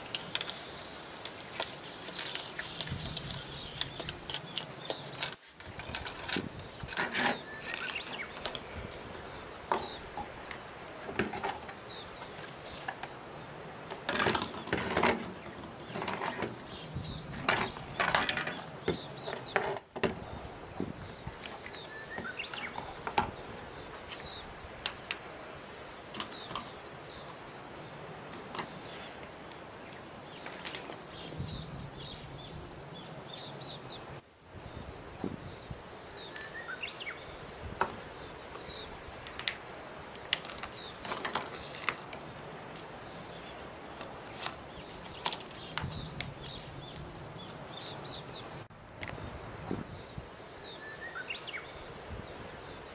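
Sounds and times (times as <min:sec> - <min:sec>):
birds chirping: 0:00.0 - 0:52.9
outdoor background noise: 0:00.0 - 0:52.9.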